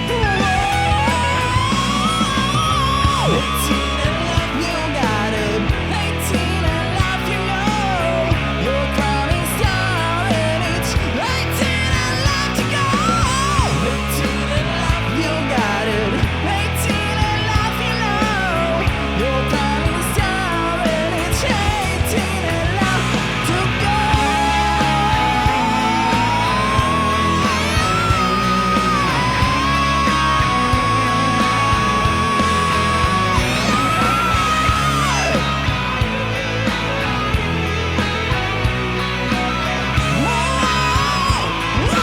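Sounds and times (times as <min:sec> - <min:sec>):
hard rock music: 0:00.0 - 0:42.0.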